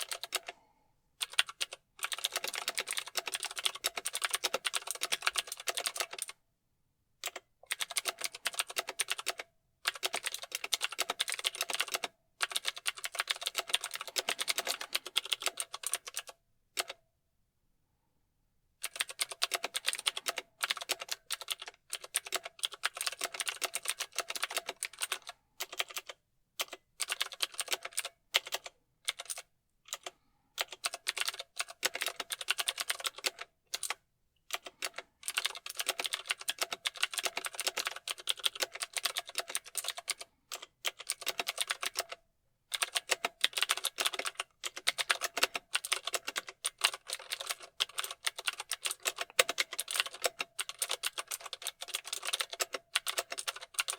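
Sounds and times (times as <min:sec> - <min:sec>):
mechanical keyboard typing: 0:00.0 - 0:00.6, 0:01.2 - 0:06.4, 0:07.2 - 0:17.0, 0:18.8 - 0:53.9.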